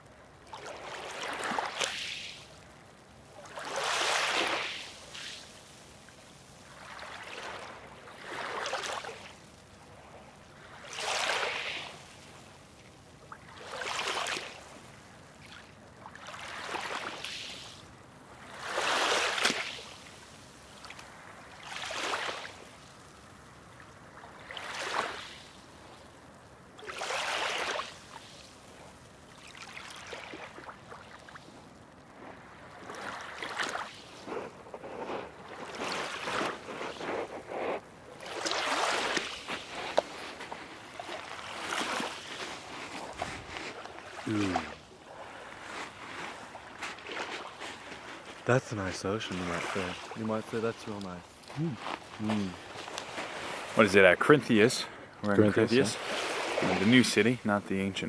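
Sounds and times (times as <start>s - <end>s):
small waves washing on beach: 0.0s - 58.0s.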